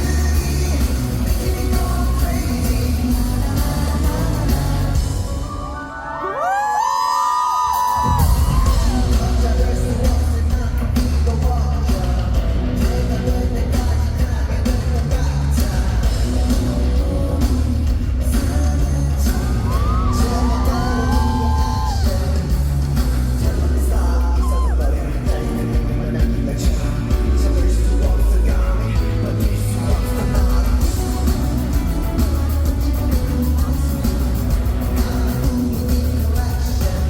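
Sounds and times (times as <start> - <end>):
man singing: 0.0 - 7.0, 7.6 - 37.0
pop song over loudspeakers: 0.0 - 37.0.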